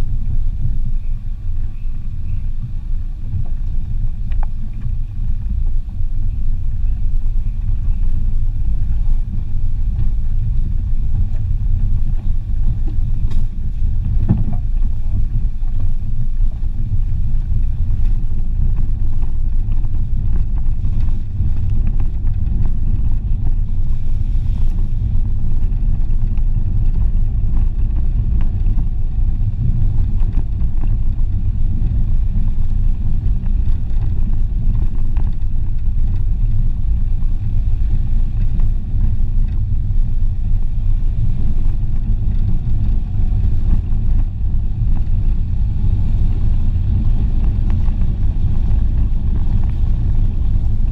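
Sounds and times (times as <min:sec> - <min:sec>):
car driving on gravel road: 0:00.0 - 0:50.9.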